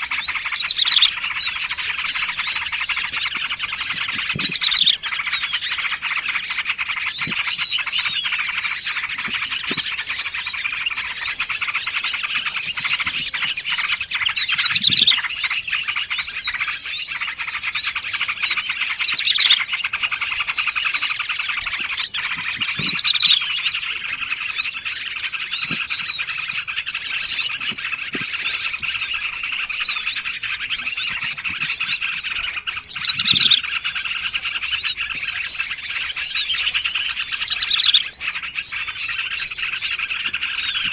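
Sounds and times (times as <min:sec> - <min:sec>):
fast bird trill: 0:00.0 - 0:40.9
songbirds chirping: 0:00.0 - 0:40.9.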